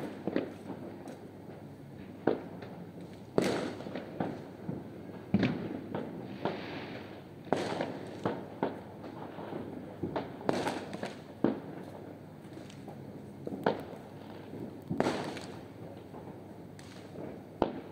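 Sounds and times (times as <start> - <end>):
distant fireworks rumble: 0.0 - 17.9
firework bangs: 3.3 - 17.9.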